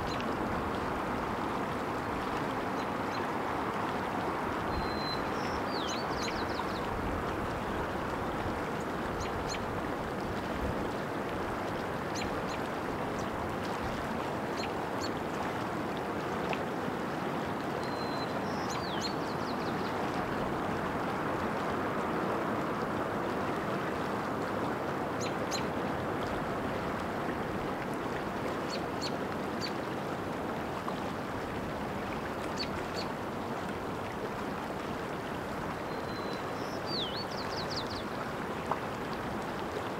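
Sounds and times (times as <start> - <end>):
running water of stream: 0.0 - 39.9.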